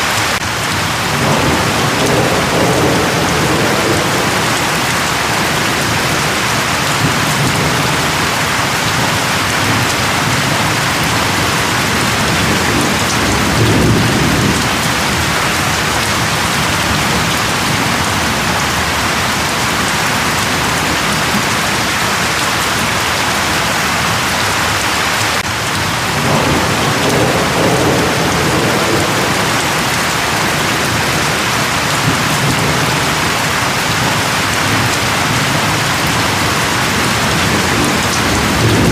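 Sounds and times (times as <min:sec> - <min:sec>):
heavy rain falling: 0:00.0 - 0:38.9
thunder rolling: 0:00.8 - 0:22.2, 0:25.4 - 0:38.9.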